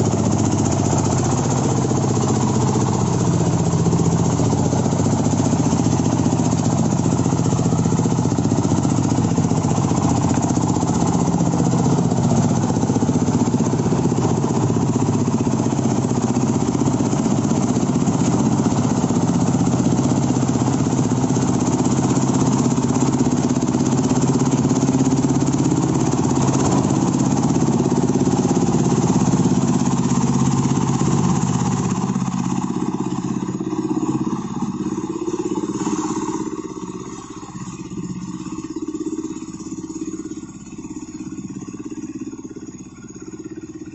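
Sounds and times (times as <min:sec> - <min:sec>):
dumper engine running: 0:00.0 - 0:43.9.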